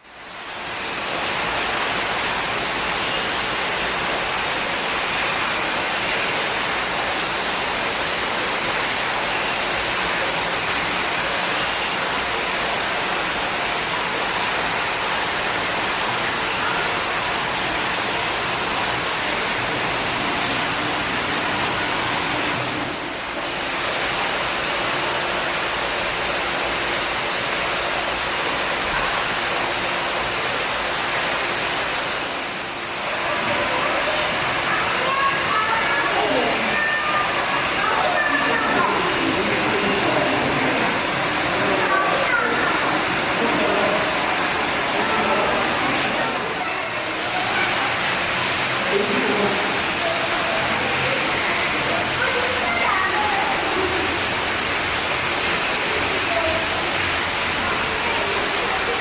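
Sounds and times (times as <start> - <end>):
rushing falling water: 0.0 - 59.0.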